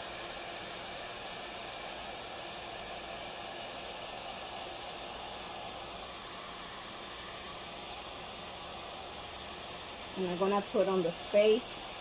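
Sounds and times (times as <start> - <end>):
heat gun blowing hiss: 0.0 - 12.0.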